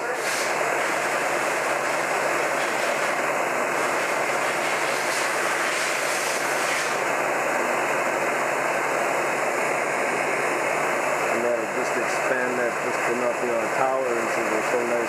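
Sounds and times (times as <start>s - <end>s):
heat gun blowing: 0.0s - 13.4s.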